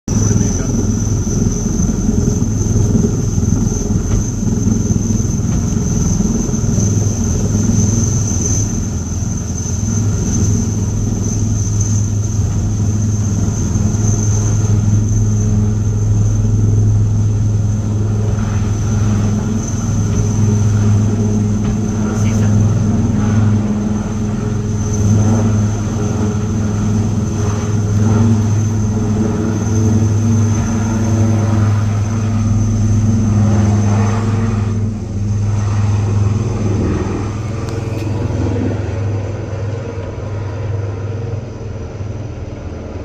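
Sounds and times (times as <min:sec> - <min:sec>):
helicopter running: 0:00.0 - 0:43.0
high-pitched whine: 0:00.1 - 0:43.0.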